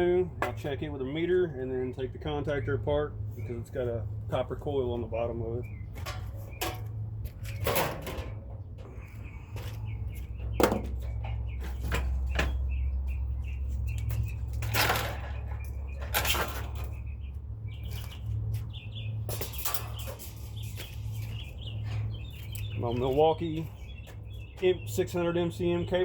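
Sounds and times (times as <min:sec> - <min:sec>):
steady low hum: 0:00.0 - 0:25.8
birds chirping: 0:00.0 - 0:26.0.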